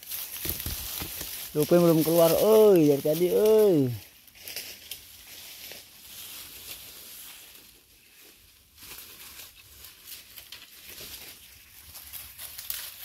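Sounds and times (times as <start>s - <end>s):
leaves and twigs crackling: 0.0s - 13.0s.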